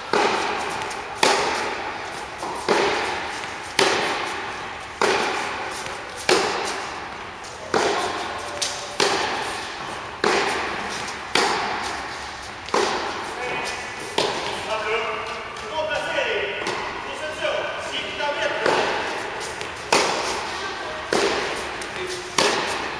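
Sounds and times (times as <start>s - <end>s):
tennis rackets hitting ball: 0.0s - 17.0s, 17.9s - 22.9s.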